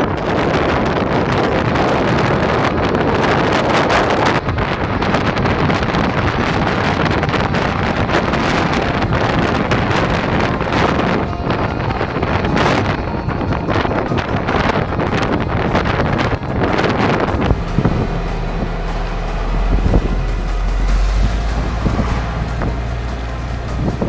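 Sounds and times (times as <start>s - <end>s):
gusting wind on microphone: 0.0s - 24.0s.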